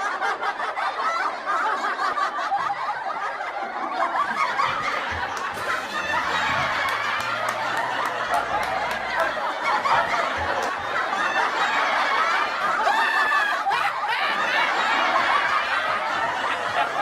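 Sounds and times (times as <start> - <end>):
snickering and chuckling: 0.0 - 17.0.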